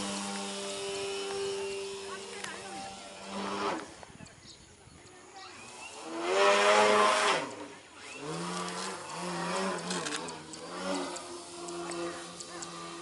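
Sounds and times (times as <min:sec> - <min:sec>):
model plane engine droning: 0:00.0 - 0:13.0.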